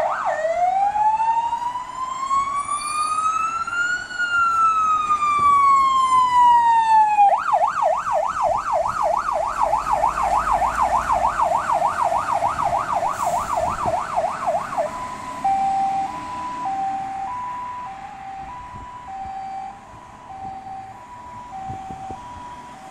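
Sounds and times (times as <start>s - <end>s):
fire engine siren: 0.0s - 22.9s.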